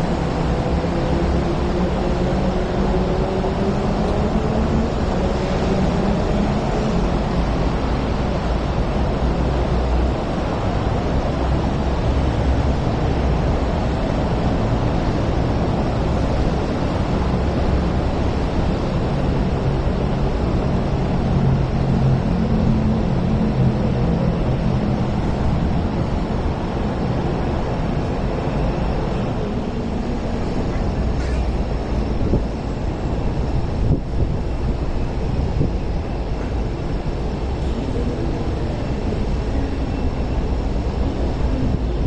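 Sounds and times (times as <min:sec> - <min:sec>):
city traffic noise: 0:00.0 - 0:42.0
electric train running past: 0:00.0 - 0:42.0.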